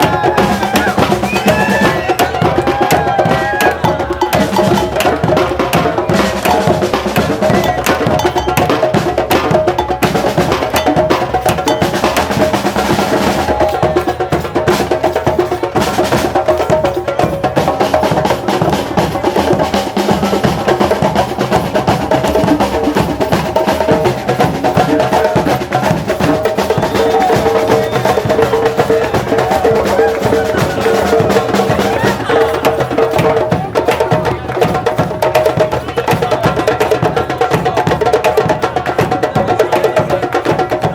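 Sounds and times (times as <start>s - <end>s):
hand drums playing fast rhythm: 0.0s - 40.9s.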